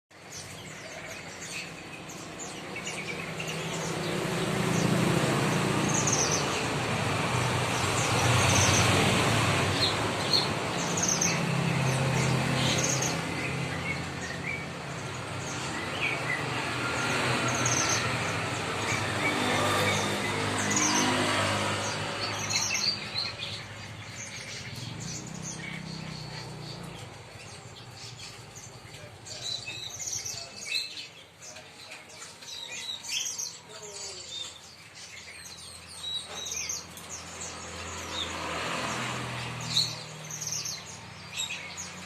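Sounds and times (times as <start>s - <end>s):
caged songbirds chirping: 0.1s - 42.0s.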